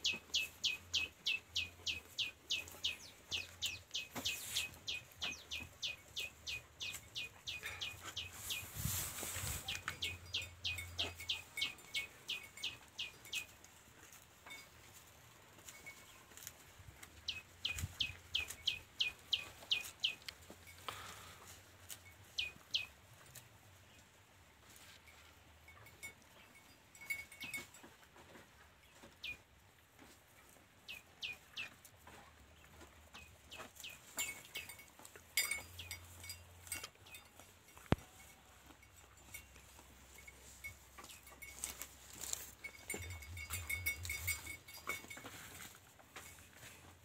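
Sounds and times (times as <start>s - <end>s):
bull chewing grass: 0.1s - 23.6s, 32.6s - 47.0s.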